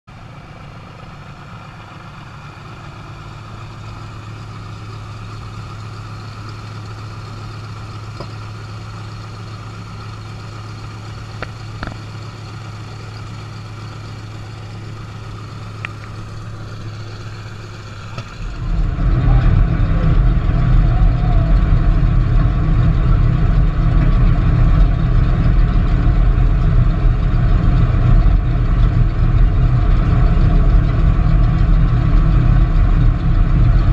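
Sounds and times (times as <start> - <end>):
aircraft engines droning: 0.1 - 33.9.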